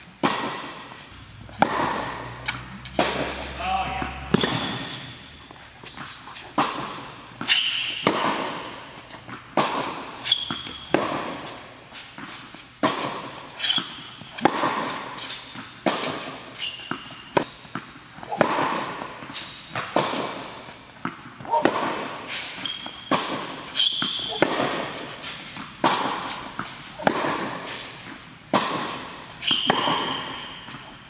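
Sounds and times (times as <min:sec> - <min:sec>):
tennis ball bouncing on court: 0:00.1 - 0:31.0
tennis ball struck by racquets: 0:00.1 - 0:31.0
sneakers squeaking on court: 0:00.2 - 0:31.0.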